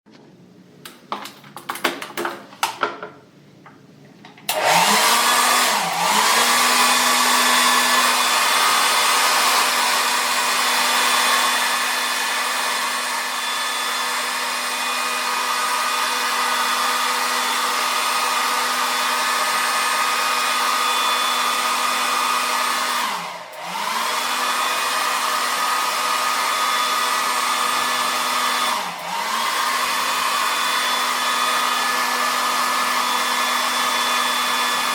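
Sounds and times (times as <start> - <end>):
hair dryer running: 4.5 - 34.9.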